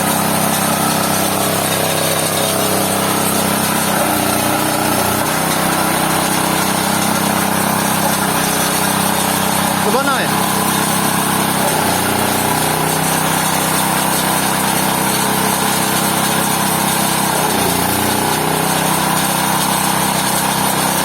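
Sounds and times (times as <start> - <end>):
pulping machine droning: 0.0 - 21.0.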